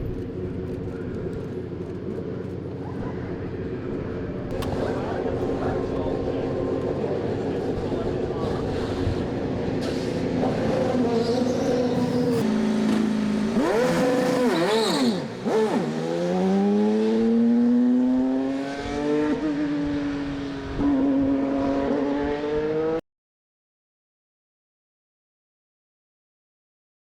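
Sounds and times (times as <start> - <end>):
race car engine revving: 0.7 - 23.0.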